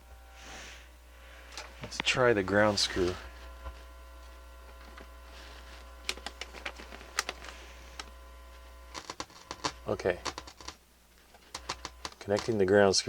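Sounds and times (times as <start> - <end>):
mains hum through amplifier: 0.0 - 13.0.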